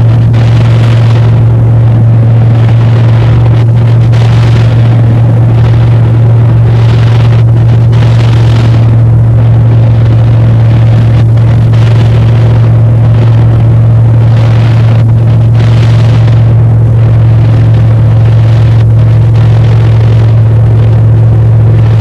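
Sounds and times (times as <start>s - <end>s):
rushing air noise: 0.0s - 22.0s
small plane engine droning: 0.0s - 22.0s.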